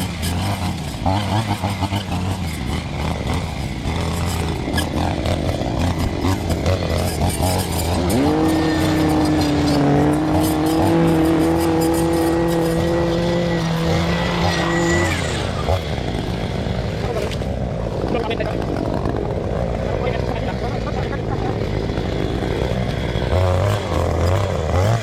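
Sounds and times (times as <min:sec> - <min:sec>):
engine running and revving: 0:00.0 - 0:25.0.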